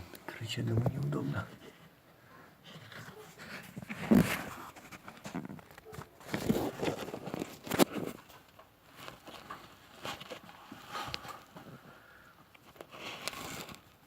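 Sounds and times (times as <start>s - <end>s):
rustling handling noises: 0.0s - 14.0s.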